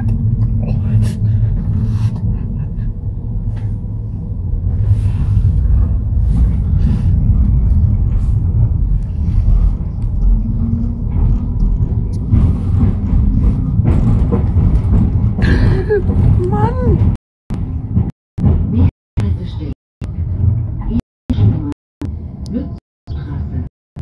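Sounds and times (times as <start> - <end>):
tram wheels rumbling: 0.0 - 23.7.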